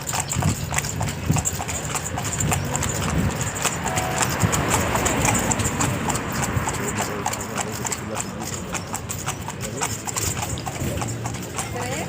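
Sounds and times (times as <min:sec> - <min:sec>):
horse hooves clip-clopping: 0:00.0 - 0:12.0.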